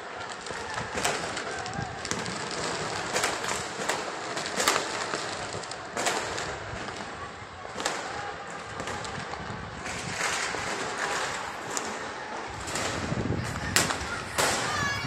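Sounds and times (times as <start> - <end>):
fireworks and firecrackers banging: 0.0 - 15.0.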